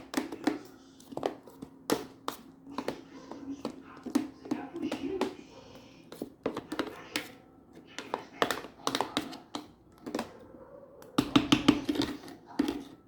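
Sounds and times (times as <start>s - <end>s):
hard objects tapping and clicking: 0.0s - 13.0s.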